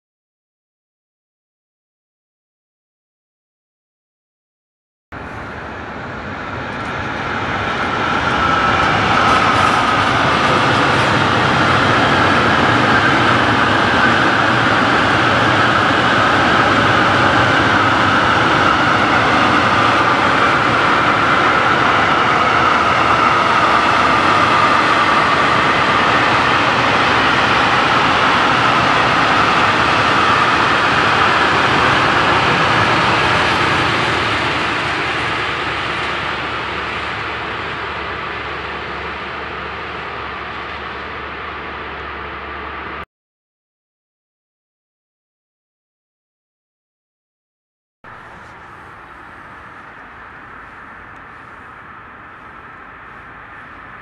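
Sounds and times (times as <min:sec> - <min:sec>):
freight train wheels rumbling: 0:05.2 - 0:43.0, 0:48.1 - 0:54.0.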